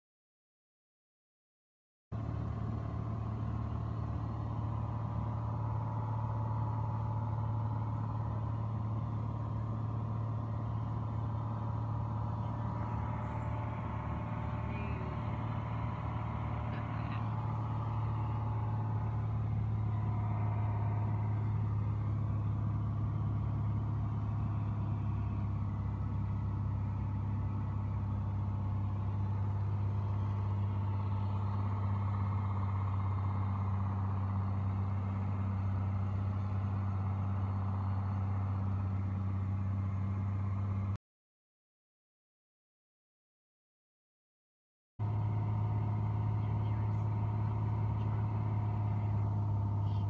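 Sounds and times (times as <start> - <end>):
aircraft engine droning in cabin: 2.2 - 41.0, 45.0 - 50.0.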